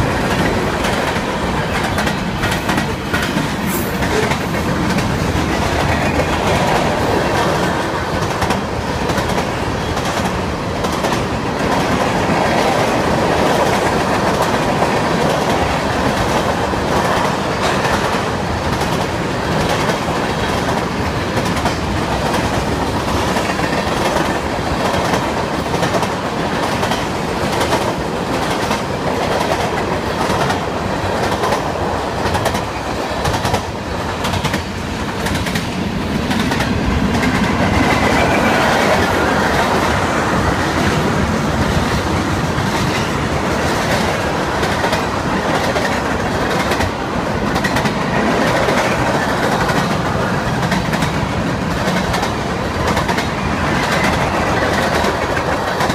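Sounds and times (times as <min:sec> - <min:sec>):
train rumble: 0:00.0 - 0:55.9
train wheels clicking over rail joints: 0:00.0 - 0:55.9.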